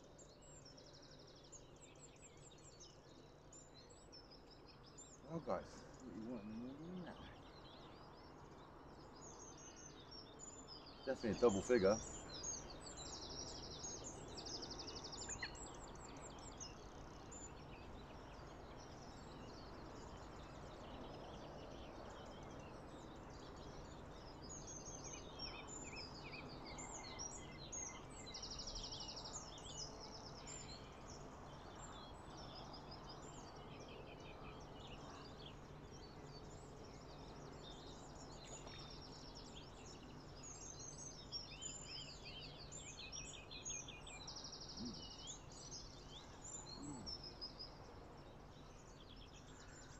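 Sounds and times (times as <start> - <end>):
faint outdoor background noise: 0.0 - 49.9
small birds chirping: 0.0 - 49.9.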